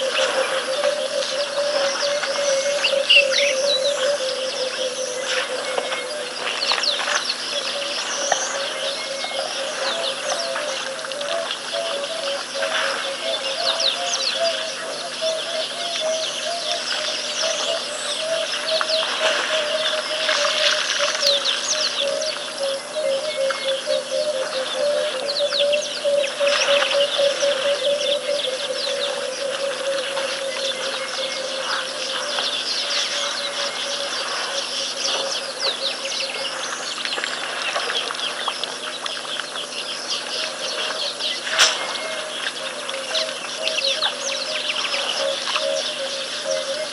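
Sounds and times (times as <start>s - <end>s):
birds chirping: 0.0s - 46.9s
constant hiss: 0.0s - 46.9s.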